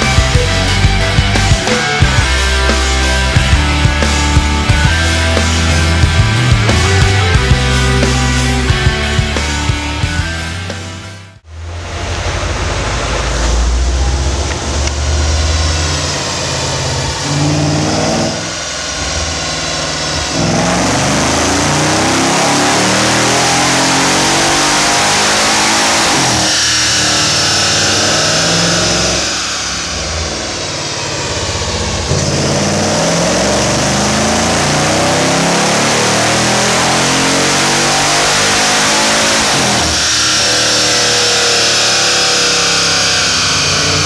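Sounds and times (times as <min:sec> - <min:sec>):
car engine at full throttle: 0:00.0 - 0:44.0.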